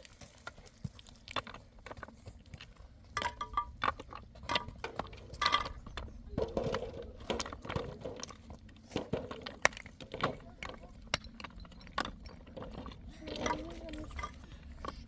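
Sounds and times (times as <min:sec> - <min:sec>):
hard objects clicking and clinking: 0:01.1 - 0:15.0.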